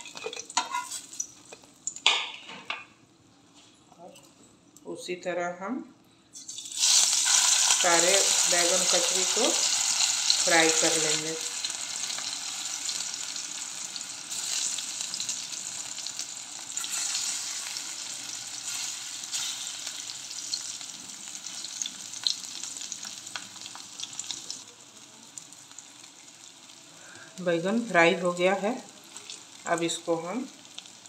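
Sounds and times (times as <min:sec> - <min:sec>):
slices sizzling in hot oil: 0:00.0 - 0:02.1, 0:06.4 - 0:31.0.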